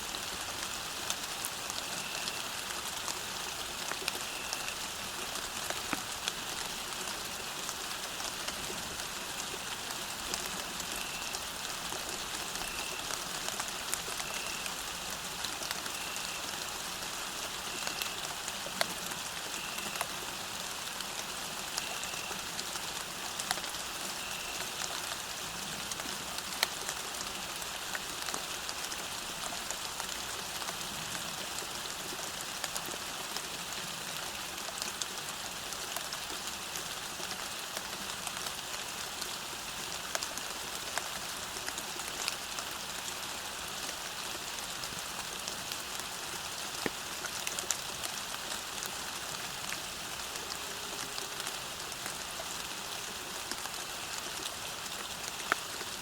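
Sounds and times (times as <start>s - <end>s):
rain falling on a path: 0.0s - 56.0s.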